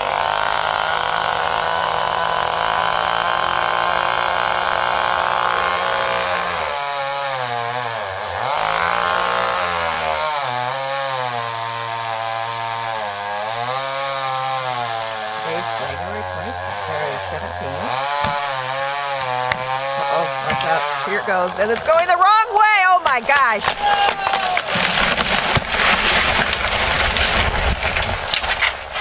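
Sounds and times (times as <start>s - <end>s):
small chainsaw cutting: 0.0s - 29.0s.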